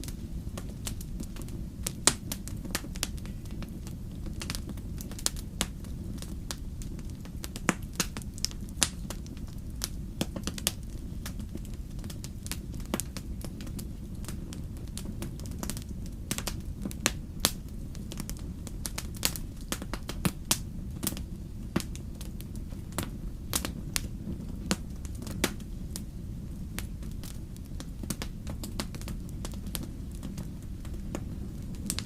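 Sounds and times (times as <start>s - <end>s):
fire low rumble: 0.0s - 32.0s
wood fire crackling and popping: 0.0s - 32.0s.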